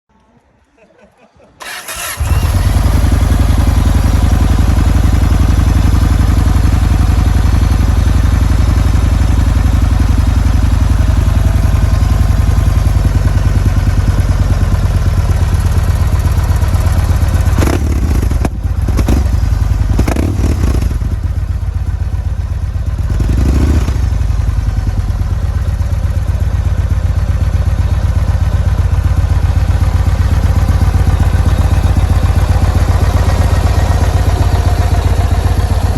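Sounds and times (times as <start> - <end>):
engine running: 1.6 - 35.9.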